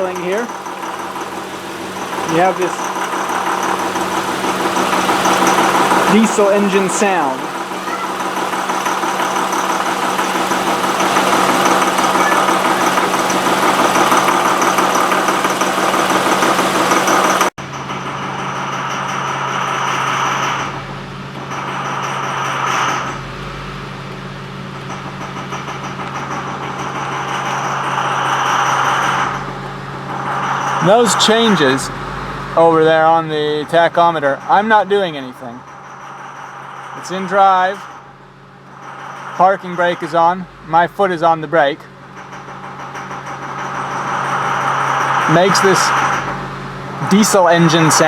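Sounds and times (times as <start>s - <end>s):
car engine idling roughly: 0.0s - 48.0s.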